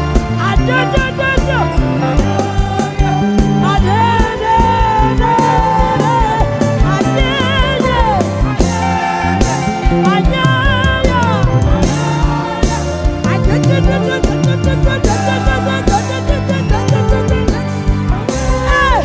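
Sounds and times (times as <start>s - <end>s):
band playing drum and bass beat: 0.0s - 19.0s
person singing long notes: 0.0s - 19.0s.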